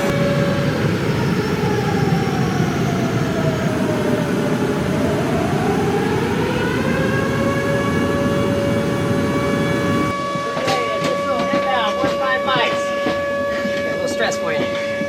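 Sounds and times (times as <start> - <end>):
jet engines running: 0.0 - 14.9.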